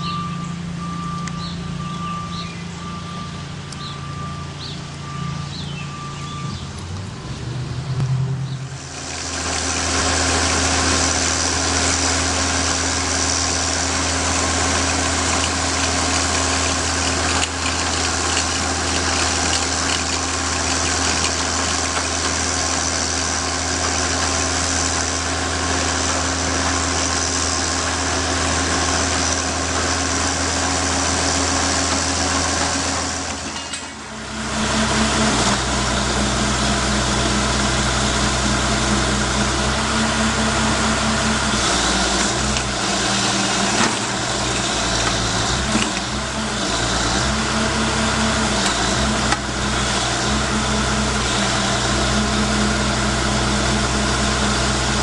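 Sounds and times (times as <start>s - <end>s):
drilling rig engine hum: 0.0s - 55.0s.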